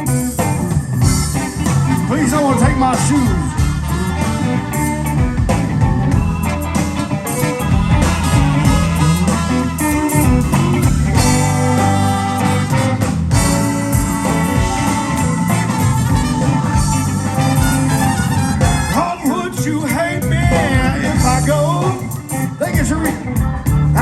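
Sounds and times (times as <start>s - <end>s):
drums with steady beat: 0.0s - 24.0s
guitar: 0.0s - 24.0s
live blues band playing: 0.0s - 24.0s.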